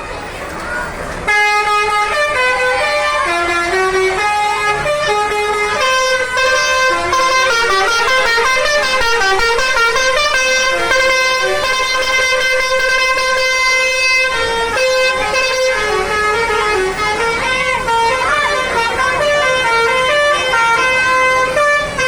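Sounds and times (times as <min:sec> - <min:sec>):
bus melody horns playing a tune: 0:01.2 - 0:22.0.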